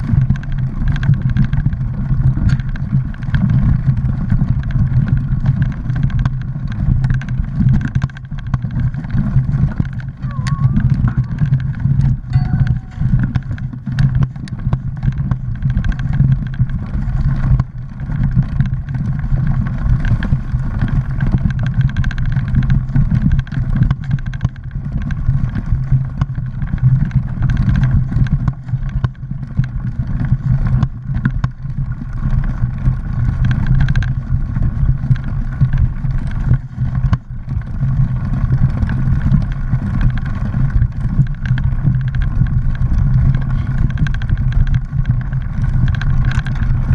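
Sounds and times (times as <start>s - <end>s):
bike knocks and rattles: 0.0s - 46.9s
tyres rumbling on dirt: 0.0s - 46.9s
wind: 0.0s - 46.9s.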